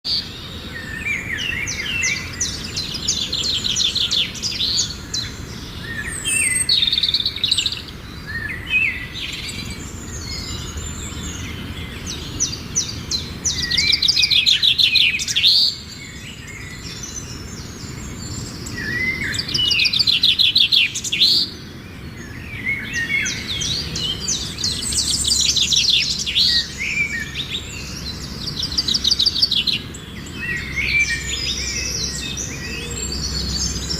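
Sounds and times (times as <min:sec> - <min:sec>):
flock of birds chirping: 0:00.0 - 0:33.9.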